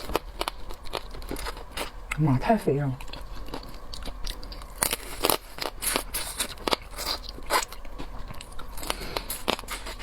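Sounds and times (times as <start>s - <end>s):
crab shell cracking and crunching: 0.0s - 2.3s, 3.0s - 10.0s.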